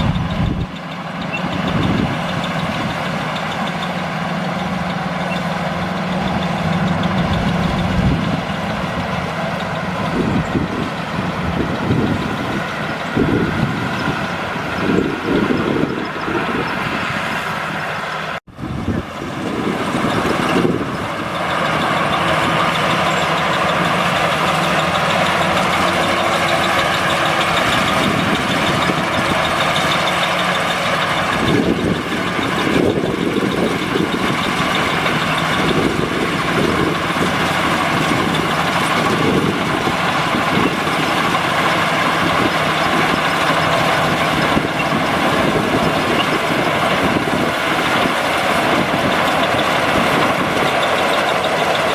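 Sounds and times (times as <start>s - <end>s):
harvester engine running under load: 0.0s - 51.9s.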